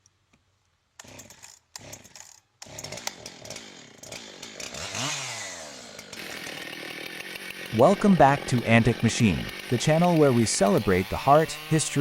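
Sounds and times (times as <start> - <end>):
chainsaw cutting log: 1.0 - 12.0.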